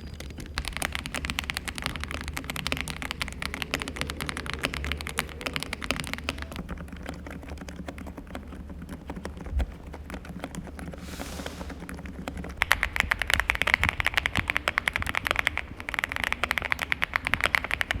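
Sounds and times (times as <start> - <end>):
mechanical keyboard typing: 0.0 - 11.0, 11.8 - 18.0.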